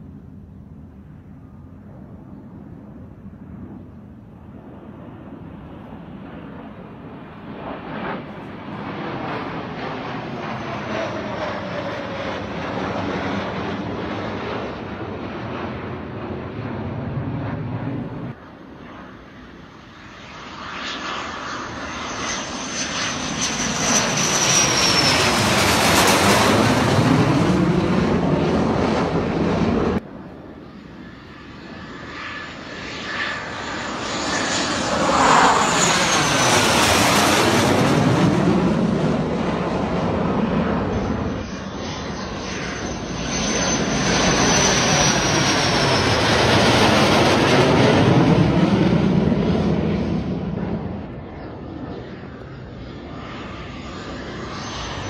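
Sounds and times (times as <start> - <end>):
fighter jet roar passing overhead: 0.0 - 55.0.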